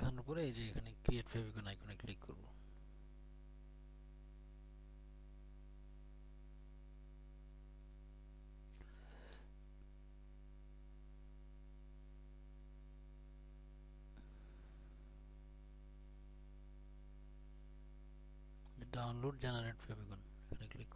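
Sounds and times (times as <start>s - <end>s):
low electrical mains hum: 0.0s - 20.9s.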